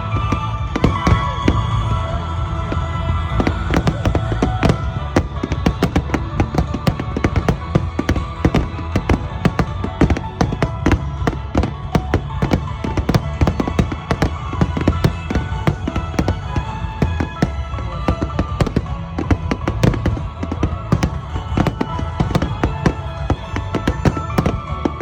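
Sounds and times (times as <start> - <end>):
fireworks bursting and crackling: 0.0 - 25.0
music with held tones: 0.0 - 25.0.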